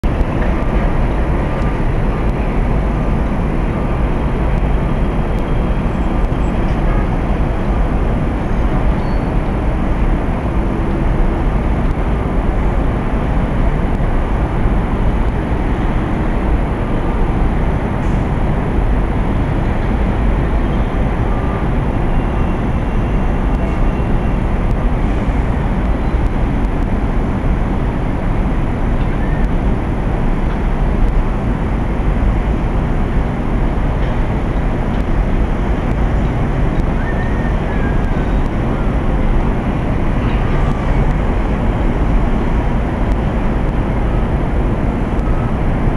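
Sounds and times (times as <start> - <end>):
steady low rumble: 0.0 - 45.9.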